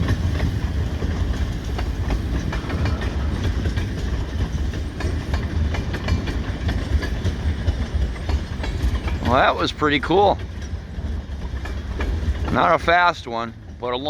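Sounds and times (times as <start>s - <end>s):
wheels clacking over rail joints: 0.0s - 14.0s
wheels rumbling on rail: 0.0s - 14.0s.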